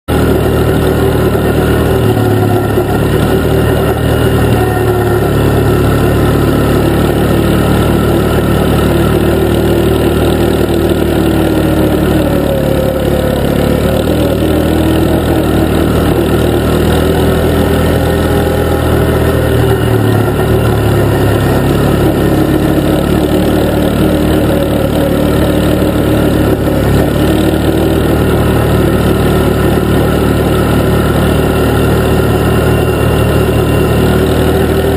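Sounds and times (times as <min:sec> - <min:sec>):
atv engine droning: 0:00.0 - 0:34.9.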